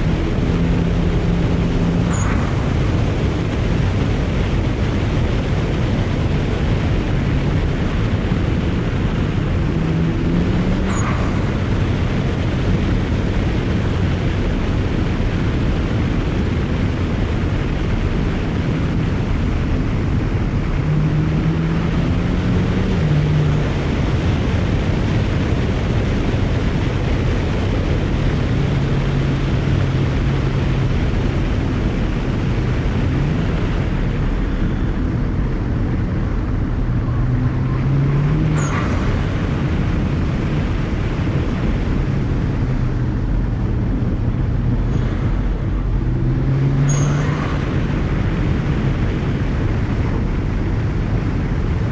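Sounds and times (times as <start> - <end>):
car engine running: 0.0 - 51.9
road and wind noise: 0.0 - 51.9.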